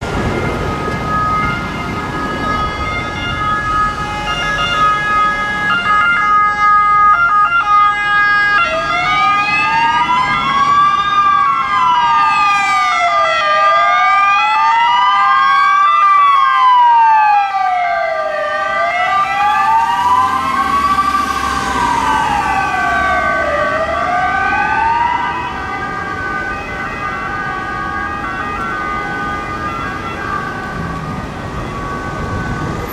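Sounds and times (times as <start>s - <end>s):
ambulance siren wailing: 0.0s - 32.9s.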